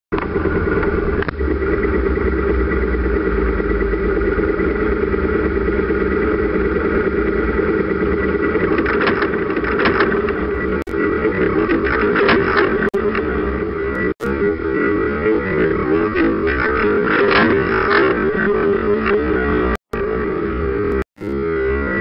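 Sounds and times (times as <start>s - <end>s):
motorcycle engine idling: 0.1s - 21.4s.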